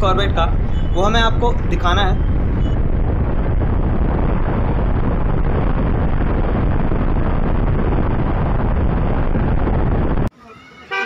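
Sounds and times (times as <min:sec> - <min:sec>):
wind roar on microphone: 0:00.0 - 0:10.3.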